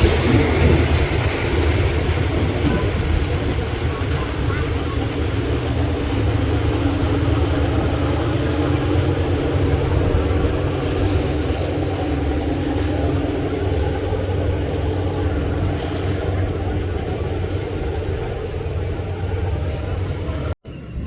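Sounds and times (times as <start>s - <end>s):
locomotive engine humming: 0.0s - 21.0s.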